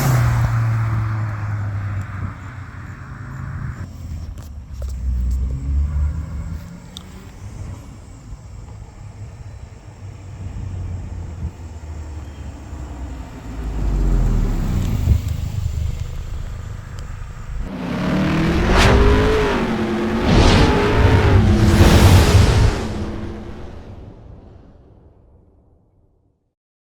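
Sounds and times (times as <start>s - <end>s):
car engine rumbling: 0.0s - 24.5s.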